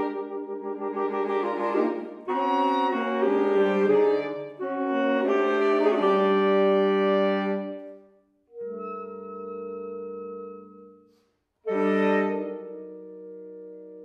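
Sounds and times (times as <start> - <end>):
saxophone quartet playing chords: 0.0 - 14.0.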